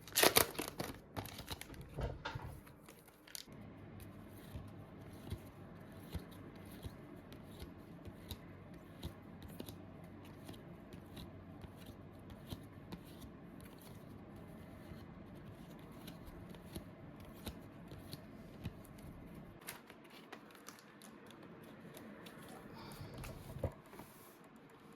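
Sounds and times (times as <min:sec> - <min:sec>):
cards and wrappers rustling: 0:00.0 - 0:03.5, 0:05.1 - 0:24.5
low steady hum: 0:00.0 - 0:24.9.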